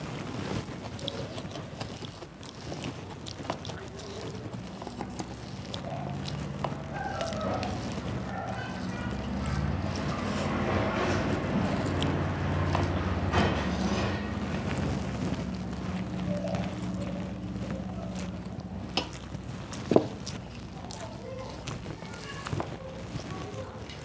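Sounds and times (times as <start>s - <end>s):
wet squelching of hand mixing rice: 0.0s - 24.0s.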